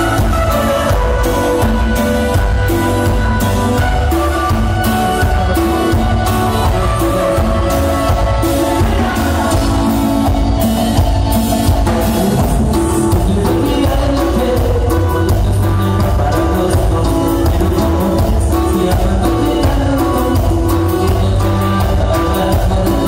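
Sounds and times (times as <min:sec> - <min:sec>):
keyboards: 0:00.0 - 0:23.0
latin band music through a pa: 0:00.0 - 0:23.0
person singing: 0:00.0 - 0:23.0.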